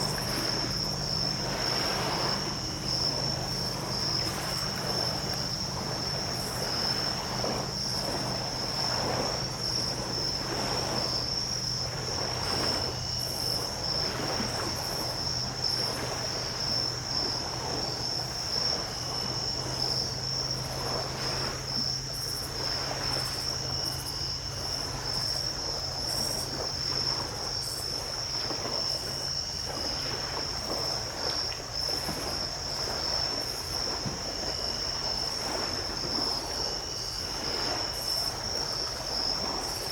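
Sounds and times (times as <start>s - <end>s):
night insects chorus: 0.0s - 39.9s
small waves washing onto beach: 0.0s - 39.9s.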